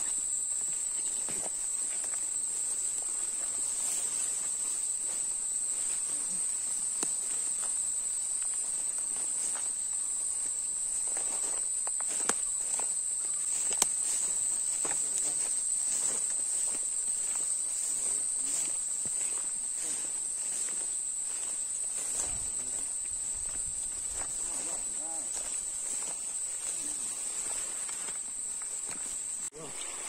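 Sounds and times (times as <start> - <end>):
insects droning: 0.0 - 30.0
footsteps through tall grass: 0.4 - 30.0.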